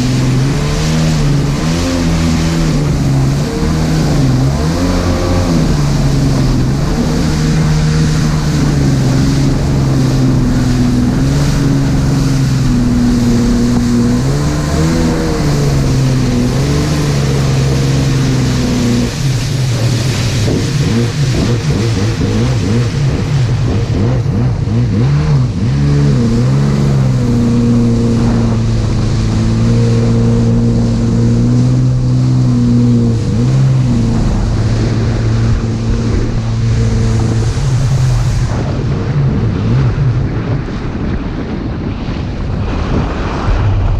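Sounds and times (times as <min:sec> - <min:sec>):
hiss of wind and water: 0:00.0 - 0:43.9
jet ski engine running: 0:00.0 - 0:43.9.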